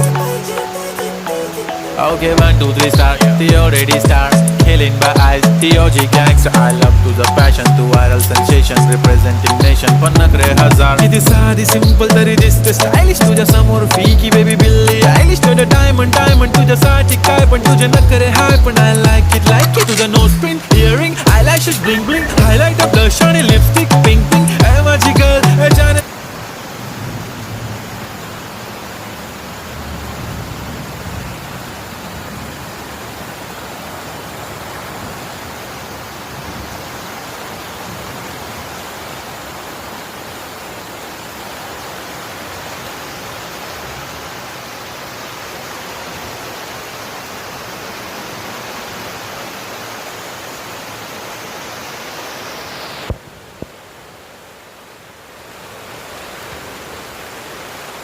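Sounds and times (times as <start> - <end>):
dull rain sound: 0.0 - 58.0
heavy rain hissing: 0.0 - 58.0.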